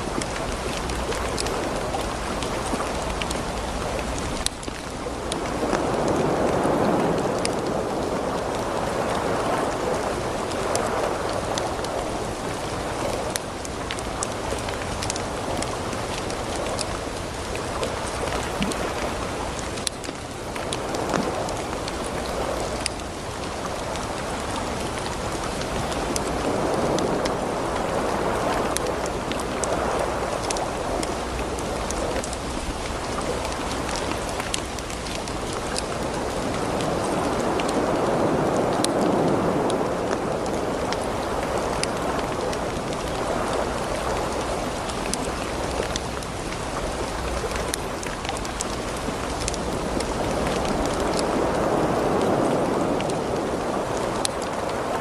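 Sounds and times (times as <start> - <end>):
ocean waves washing in: 0.0 - 55.0
wood fire crackling: 0.0 - 55.0.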